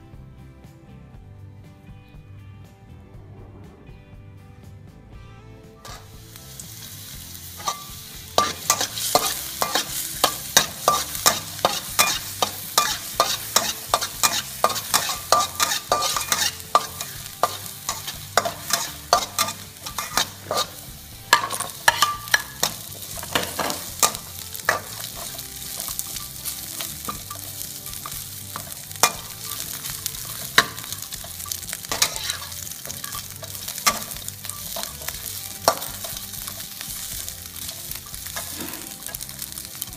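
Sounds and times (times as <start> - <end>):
food sizzling in hot oil: 5.8 - 39.9
metal spatula scraping wok: 5.8 - 39.9.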